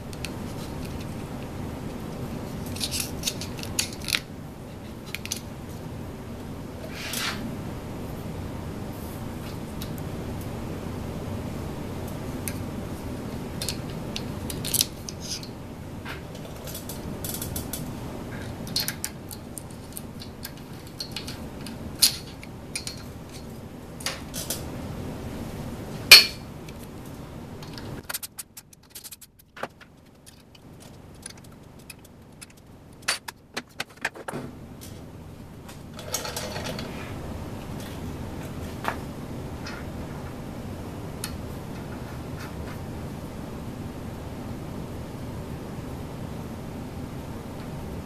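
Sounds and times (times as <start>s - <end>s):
low steady background noise: 0.0s - 48.0s.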